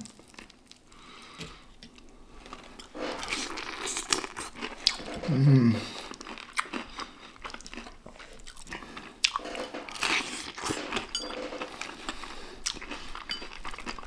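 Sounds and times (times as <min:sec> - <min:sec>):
fried chicken crunching: 0:02.0 - 0:14.0.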